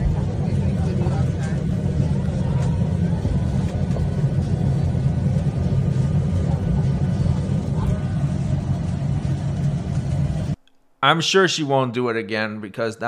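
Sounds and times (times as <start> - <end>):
airliner cabin rumble: 0.0 - 10.6.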